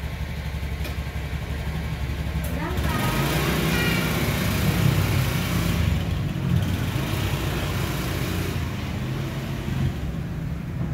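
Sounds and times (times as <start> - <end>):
scooter engine humming: 0.0 - 10.9.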